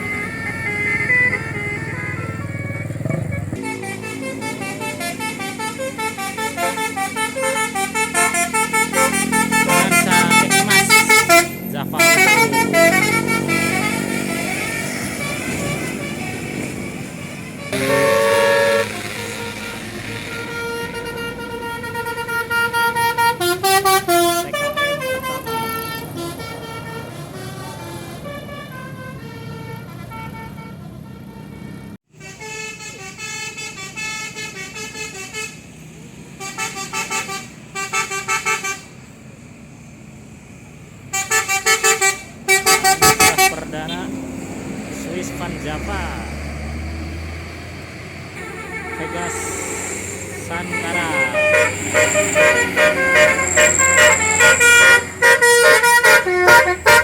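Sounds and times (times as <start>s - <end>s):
multi-tone bus horn melody: 0.0s - 39.2s, 41.0s - 47.4s, 48.4s - 57.0s
bus engine running: 0.0s - 57.0s.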